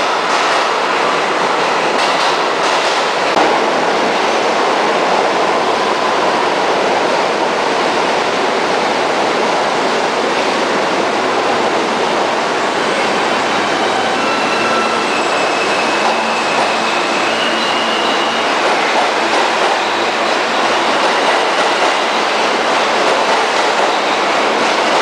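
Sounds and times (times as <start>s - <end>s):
train wheels on track: 0.0s - 25.0s.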